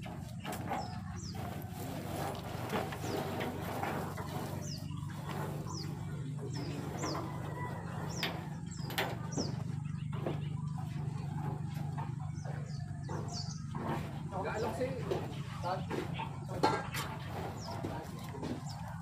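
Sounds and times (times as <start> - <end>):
low hum: 0.0 - 19.0
small birds chirping: 0.0 - 19.0.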